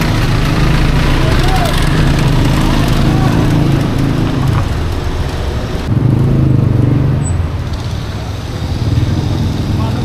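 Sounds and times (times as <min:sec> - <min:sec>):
road noise: 0:00.0 - 0:10.0
vehicle engine running: 0:00.0 - 0:10.0.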